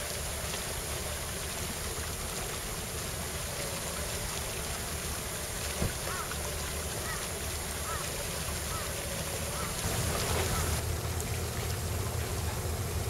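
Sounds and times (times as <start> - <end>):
low steady hum: 0.0 - 13.0
wind and water wash: 0.0 - 13.0.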